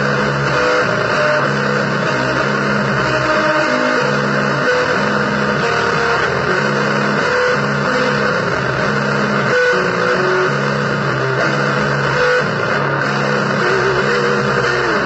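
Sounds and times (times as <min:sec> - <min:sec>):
noisy blues electric guitar: 0:00.0 - 0:15.0.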